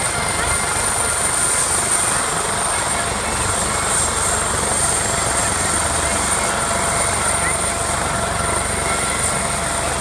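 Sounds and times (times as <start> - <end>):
helicopter rotor blades beating: 0.0 - 10.0
helicopter turbine whine: 0.0 - 10.0.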